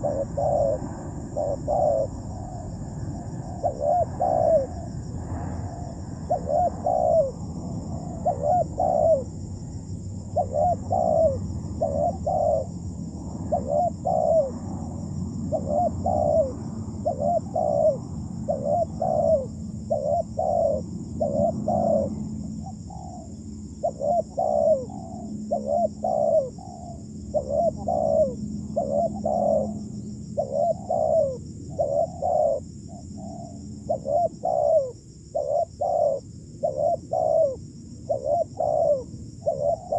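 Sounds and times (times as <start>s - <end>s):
dove cooing: 0.0s - 9.5s, 10.2s - 39.9s.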